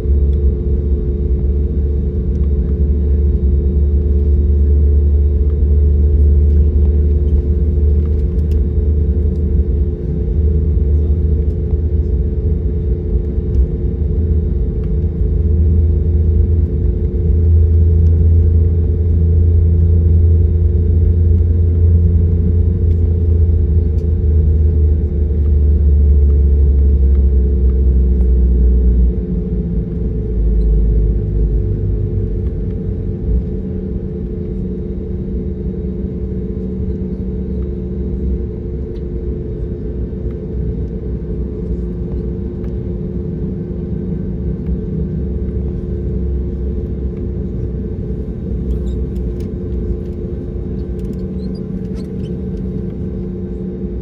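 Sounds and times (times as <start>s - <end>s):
airliner engines droning: 0.0s - 54.0s.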